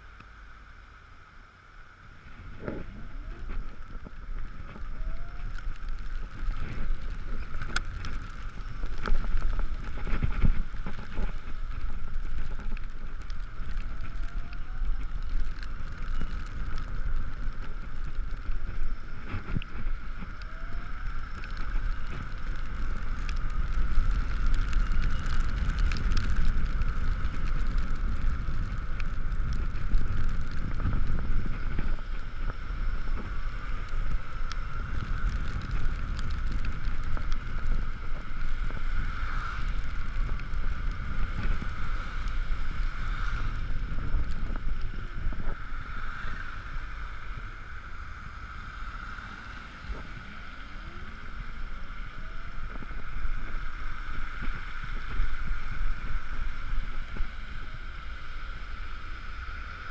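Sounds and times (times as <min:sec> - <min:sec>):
low road rumble: 0:00.0 - 0:59.9
wind buffeting microphone: 0:02.1 - 0:58.7.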